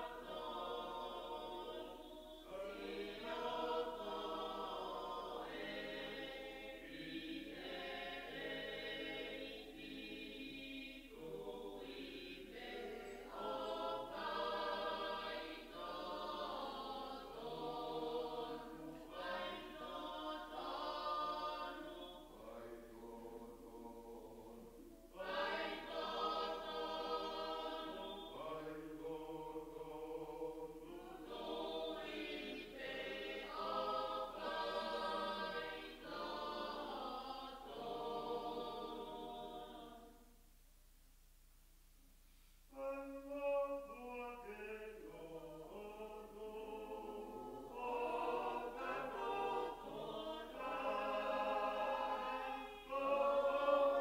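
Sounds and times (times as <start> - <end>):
choir singing a hymn: 0.0 - 40.3, 42.7 - 54.0.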